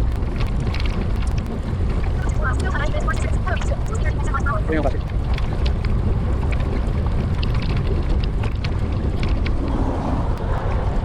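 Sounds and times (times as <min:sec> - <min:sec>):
faint ticks from bicycle: 0:00.0 - 0:11.0
wind buffeting microphone: 0:00.0 - 0:11.0.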